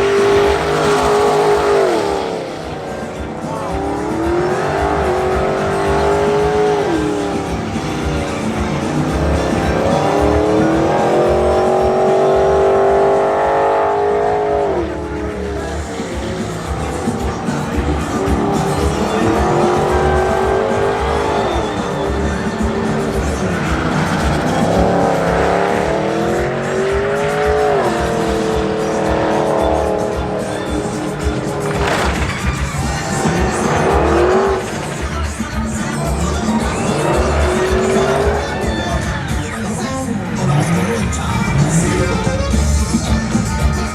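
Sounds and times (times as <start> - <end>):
truck engine revving: 0.0 - 43.9
tyres squealing: 0.0 - 43.9.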